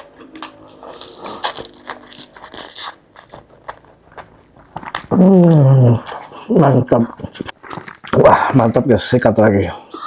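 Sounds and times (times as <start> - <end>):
person chewing crunchy food: 0.0 - 8.8.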